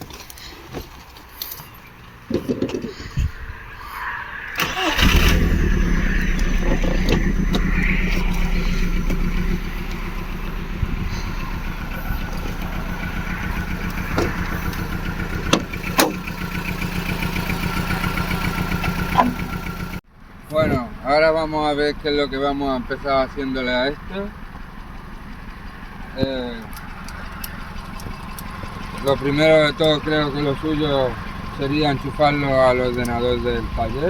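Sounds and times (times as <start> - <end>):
car engine starting and idling: 0.0 - 34.0.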